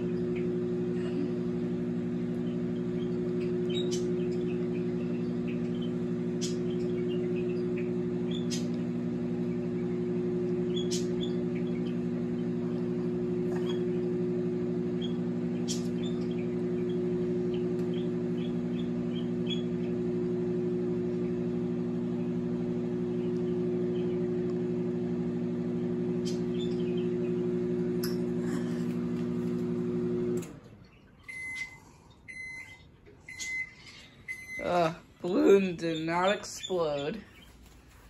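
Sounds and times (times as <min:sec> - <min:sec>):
microwave oven humming: 0:00.0 - 0:38.0.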